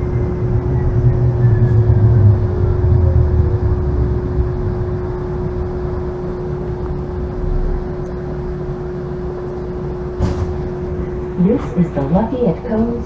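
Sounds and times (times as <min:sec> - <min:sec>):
steady hum: 0:00.0 - 0:13.0
streetcar running gear rumble: 0:00.0 - 0:13.0.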